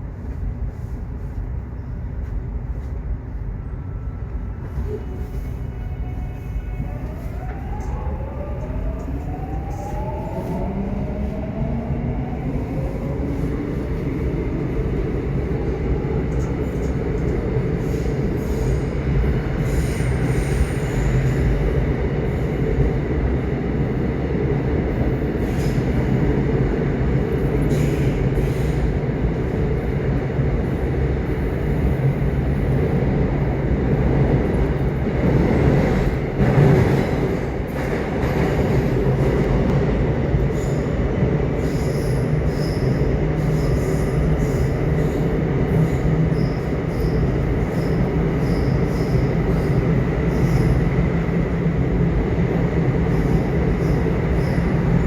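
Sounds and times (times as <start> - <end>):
subway train rumbling on track: 0.0 - 55.0.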